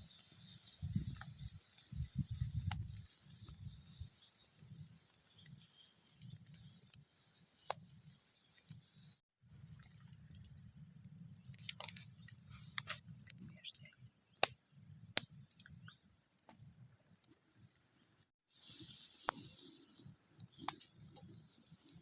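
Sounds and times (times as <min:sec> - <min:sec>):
birds chirping faintly: 0:00.0 - 0:22.0
campfire crackling and popping: 0:00.0 - 0:22.0.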